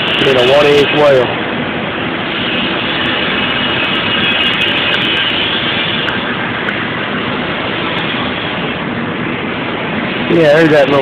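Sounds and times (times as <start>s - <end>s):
machinery rushing hum: 0.0s - 11.0s.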